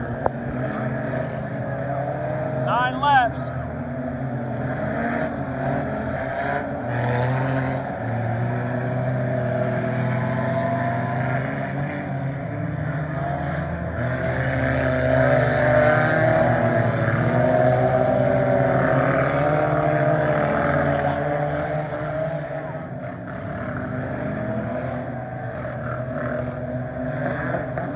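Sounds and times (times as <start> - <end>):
race car engines: 0.0 - 27.9.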